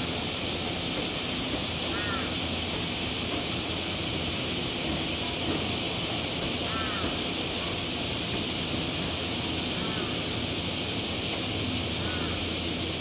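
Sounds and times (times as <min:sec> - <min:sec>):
high hiss: 0:00.0 - 0:13.0.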